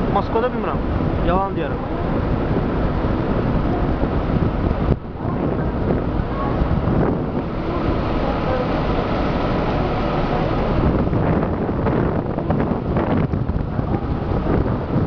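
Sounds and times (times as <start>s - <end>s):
water rushing along boat hull: 0.0s - 15.0s
wind buffeting microphone: 0.0s - 15.0s.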